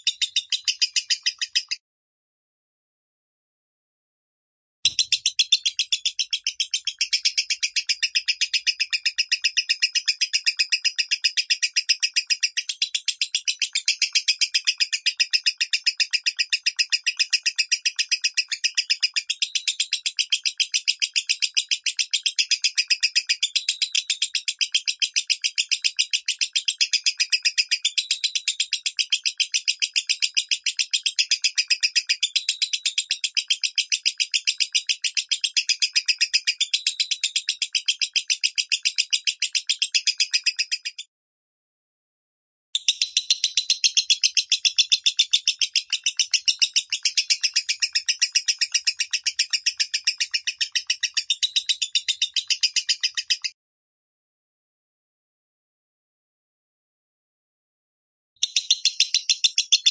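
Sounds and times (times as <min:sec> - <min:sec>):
lovebird chattering song: 0:00.0 - 0:01.8, 0:04.9 - 0:41.0, 0:42.8 - 0:53.6, 0:58.4 - 0:59.9.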